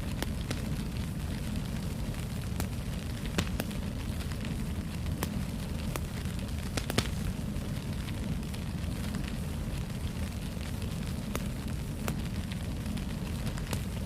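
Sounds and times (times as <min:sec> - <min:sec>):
fire flames rumbling: 0:00.0 - 0:14.0
fire pops and snaps: 0:00.0 - 0:14.0.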